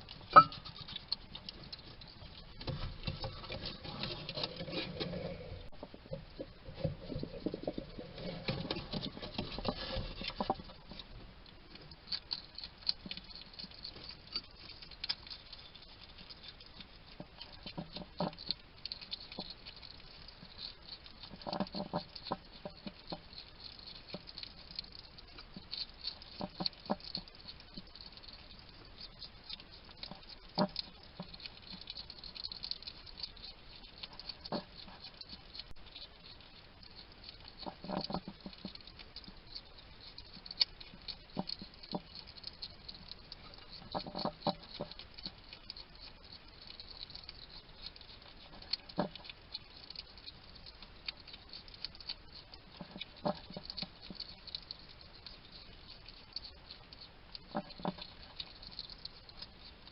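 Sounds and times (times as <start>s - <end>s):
hedgehog chewing and crunching: 0.0s - 59.9s.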